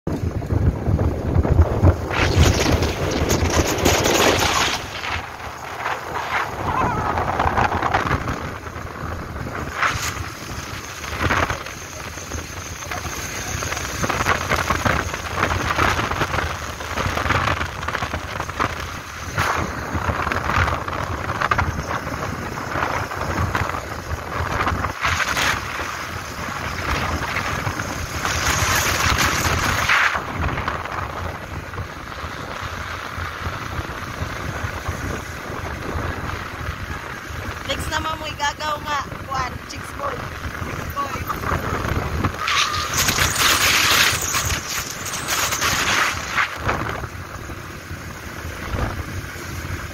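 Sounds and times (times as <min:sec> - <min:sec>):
motorcycle engine and road noise: 0:00.1 - 0:49.9
wind rushing over microphone: 0:00.1 - 0:49.9.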